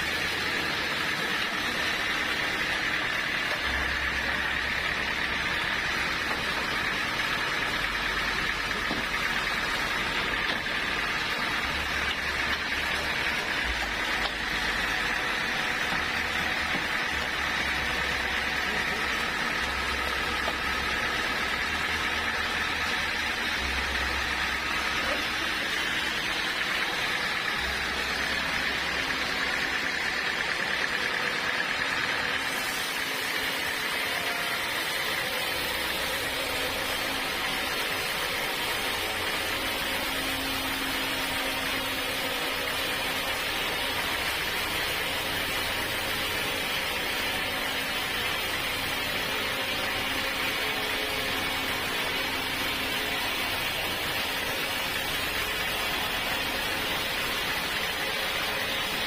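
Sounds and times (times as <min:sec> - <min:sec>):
low machine hum: 0:00.0 - 0:59.0
saw cutting through log: 0:00.0 - 0:59.0.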